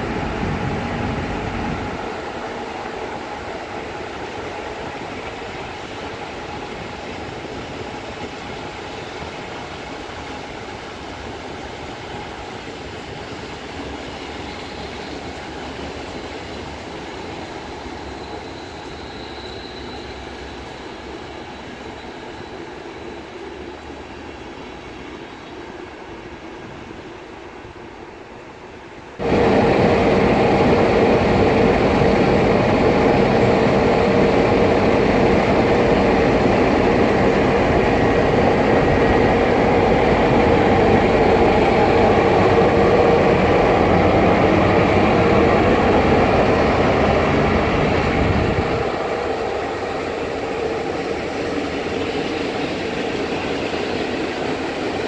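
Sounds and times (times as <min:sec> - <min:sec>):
electric locomotive hum: 0:00.0 - 0:55.0
train wheels rumbling on rails: 0:00.0 - 0:55.0.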